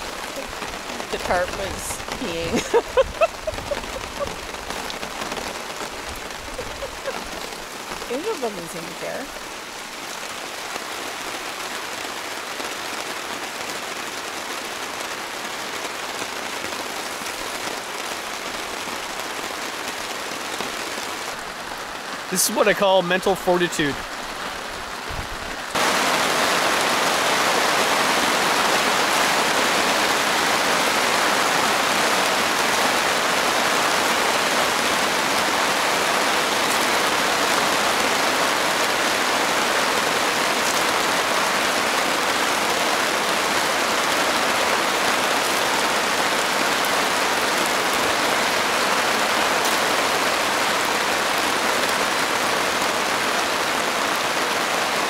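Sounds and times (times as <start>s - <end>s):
heavy rain on a tarp: 0.0s - 55.0s.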